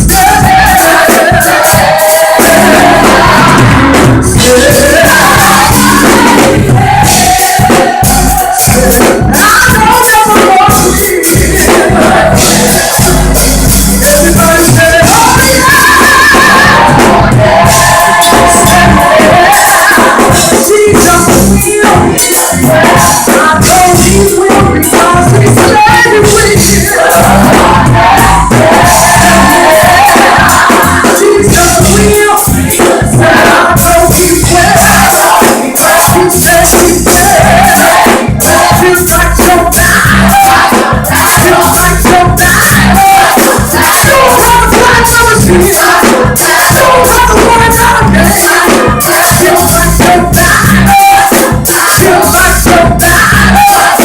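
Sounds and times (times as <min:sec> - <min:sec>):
band with heavy bass: 0:00.0 - 0:54.0
vocal group singing gospel: 0:00.0 - 0:54.0.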